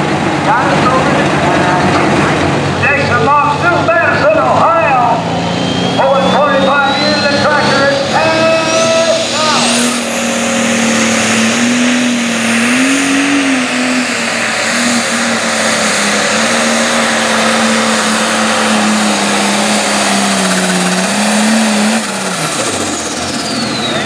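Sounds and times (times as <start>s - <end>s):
diesel engine running under load: 0.0s - 24.0s
turbo whine: 0.1s - 24.0s.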